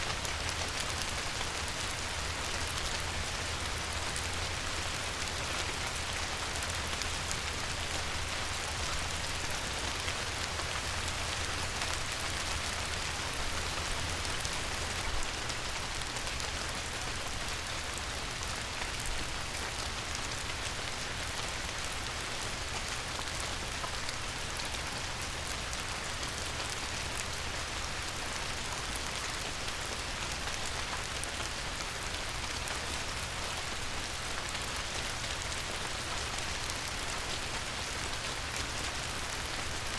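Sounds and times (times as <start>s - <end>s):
light rain on a river: 0.0s - 39.9s.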